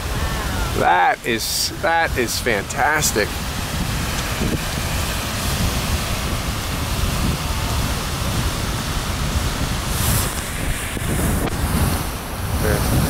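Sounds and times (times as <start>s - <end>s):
geyser roar of water and steam: 0.0s - 13.0s
wind buffeting microphone: 0.0s - 13.0s.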